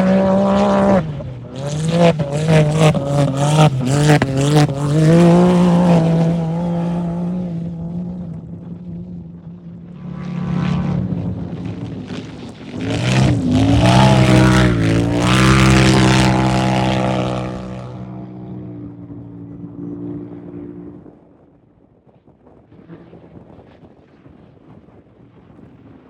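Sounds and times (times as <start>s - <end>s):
off-road vehicle engine passing: 0.0s - 21.1s.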